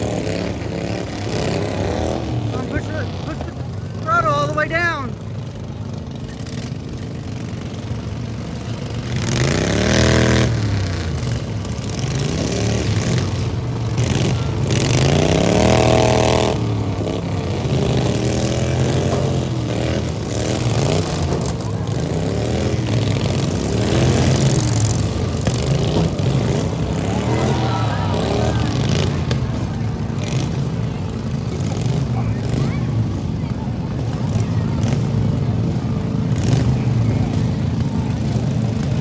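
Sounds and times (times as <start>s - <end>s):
lawn mower engines revving: 0.0s - 39.0s.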